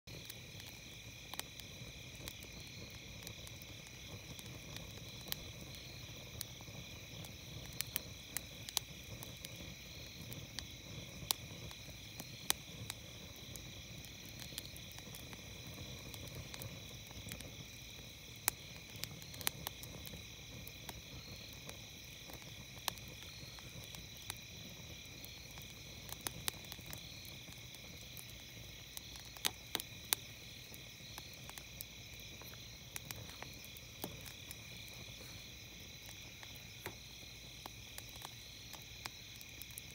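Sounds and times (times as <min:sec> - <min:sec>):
campfire crackling and popping: 0:00.1 - 0:39.9
night insects trilling: 0:00.1 - 0:39.9.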